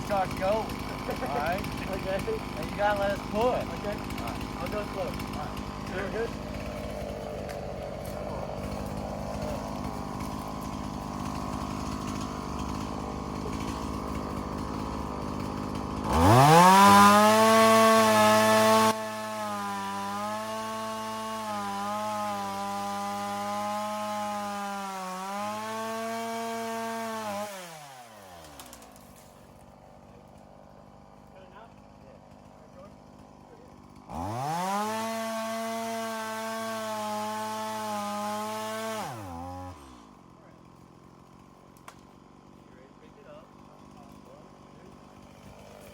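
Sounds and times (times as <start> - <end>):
chainsaw revving and cutting: 0.0 - 45.9.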